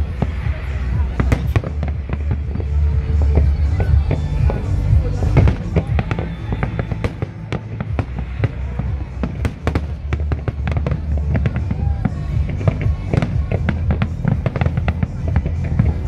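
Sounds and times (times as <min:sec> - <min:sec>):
fireworks bangs and crackles: 0:00.0 - 0:16.0
music with deep bass: 0:00.0 - 0:16.0.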